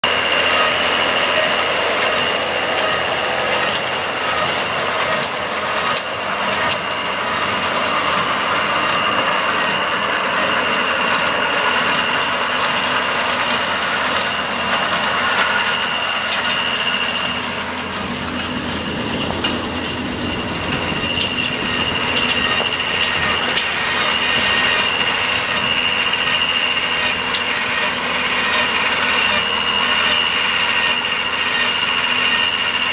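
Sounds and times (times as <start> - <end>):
high-pitched whine: 0.0 - 32.9
tractor engine running: 0.0 - 32.9.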